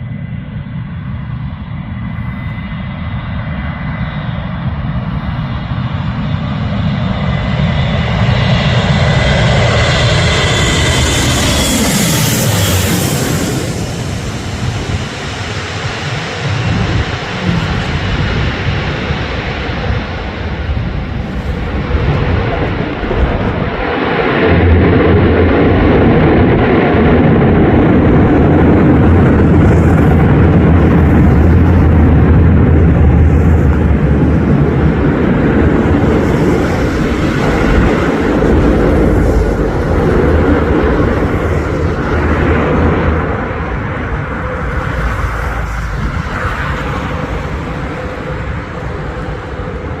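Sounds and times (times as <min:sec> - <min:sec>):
turboprop engines droning: 0:00.0 - 0:50.0.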